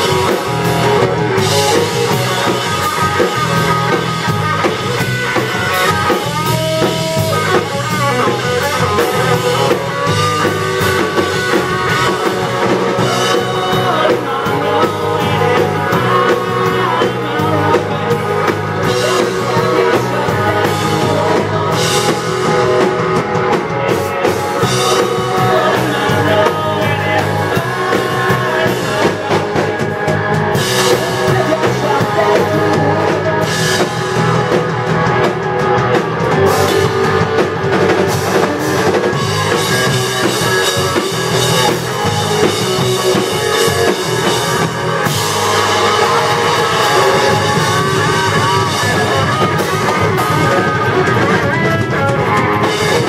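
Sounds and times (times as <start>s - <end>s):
drum kit: 0.0s - 53.0s
electric guitar: 0.0s - 53.0s
upright bass: 0.0s - 53.0s.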